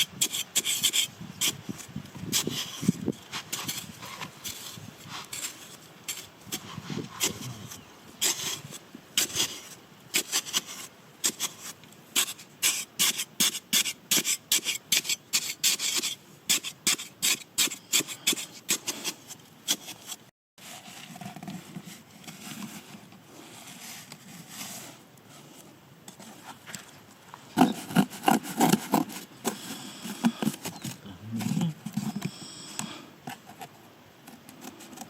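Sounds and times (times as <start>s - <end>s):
scraping strokes: 0.0s - 33.7s.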